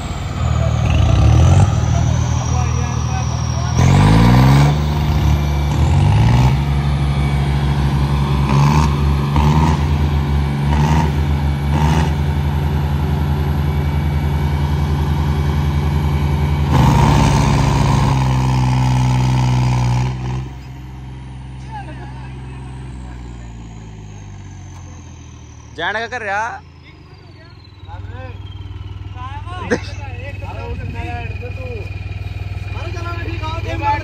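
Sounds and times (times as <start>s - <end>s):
tractor diesel engine revving: 0.0s - 34.0s.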